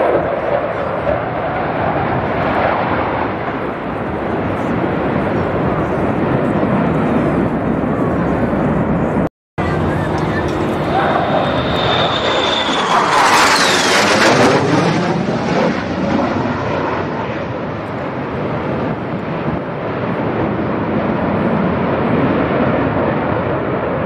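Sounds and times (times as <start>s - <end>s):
jet flying low overhead: 0.0s - 24.0s.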